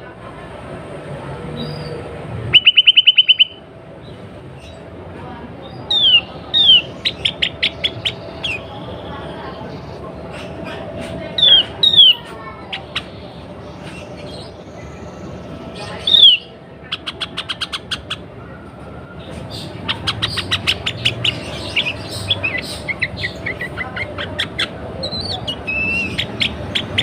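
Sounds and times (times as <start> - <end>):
bird rapid chattering: 1.6 - 4.9, 5.6 - 18.6, 19.2 - 27.0.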